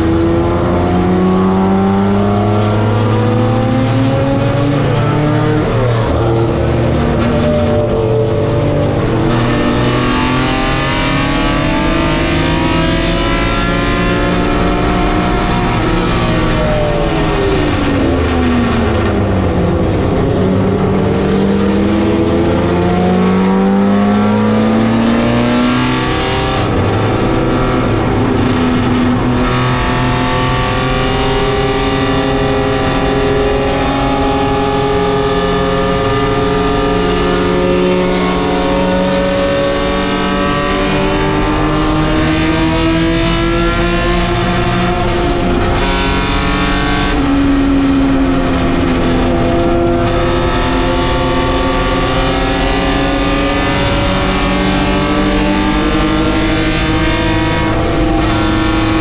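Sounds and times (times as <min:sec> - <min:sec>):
race car engine revving through gears: 0:00.0 - 0:59.0.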